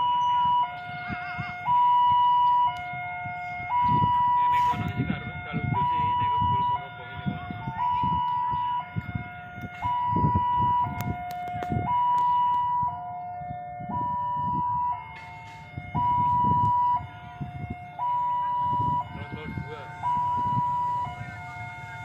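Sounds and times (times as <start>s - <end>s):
two-tone electronic warning alarm: 0.0s - 22.0s.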